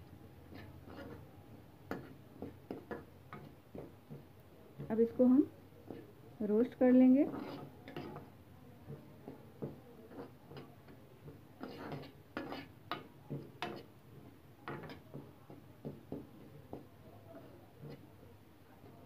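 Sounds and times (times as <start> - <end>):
metal spoon scraping a pan: 0.4 - 18.2.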